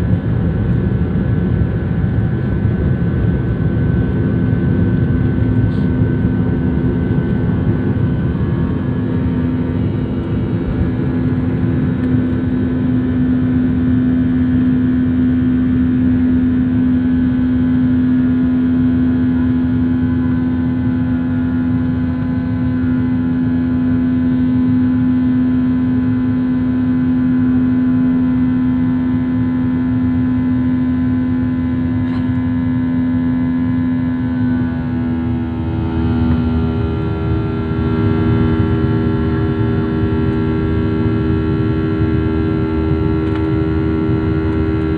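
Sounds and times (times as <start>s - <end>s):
airplane engines droning: 0.0s - 44.9s.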